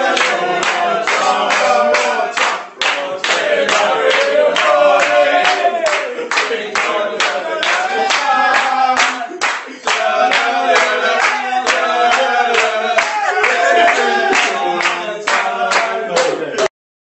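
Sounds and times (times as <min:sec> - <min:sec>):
group singing: 0:00.0 - 0:16.7
rhythmic hand-clapping: 0:00.0 - 0:16.7.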